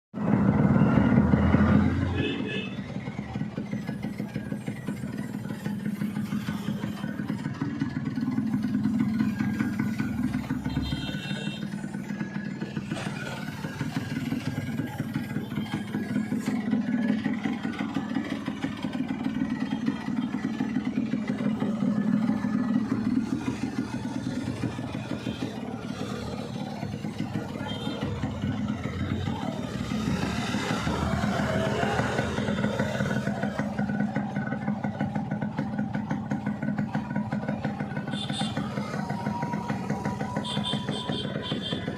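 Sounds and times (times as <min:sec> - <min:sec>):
motorcycle engine revving: 0:00.2 - 0:41.9.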